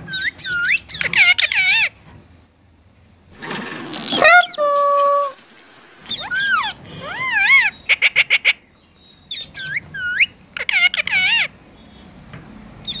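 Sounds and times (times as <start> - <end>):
parakeet calling: 0.0 - 2.0, 3.4 - 13.0.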